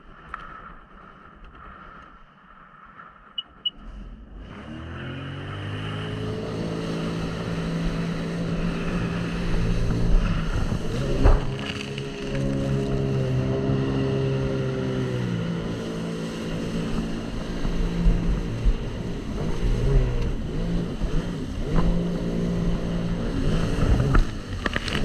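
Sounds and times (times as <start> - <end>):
jet ski engine revving: 4.1 - 25.0.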